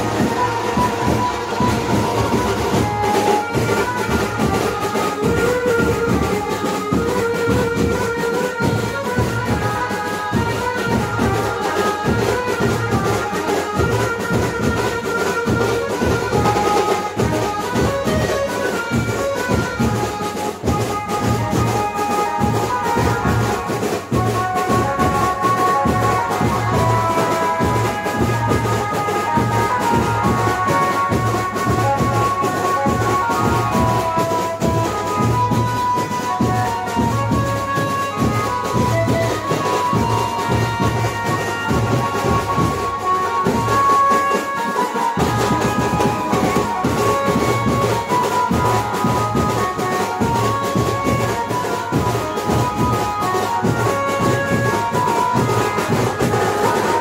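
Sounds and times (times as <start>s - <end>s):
brass band playing dance tune: 0.0s - 57.0s.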